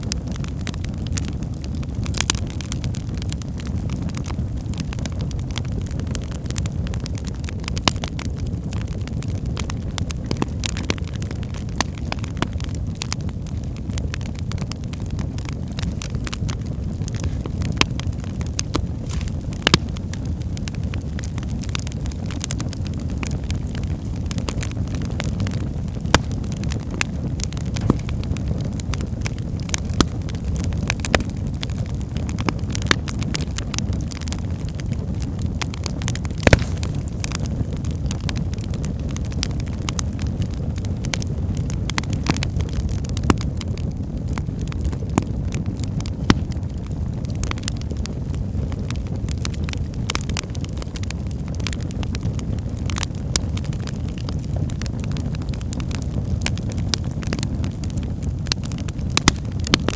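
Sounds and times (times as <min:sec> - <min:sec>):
logs crackling: 0:00.0 - 0:51.0, 0:52.6 - 0:59.9
low rumble of flames: 0:00.0 - 0:59.9.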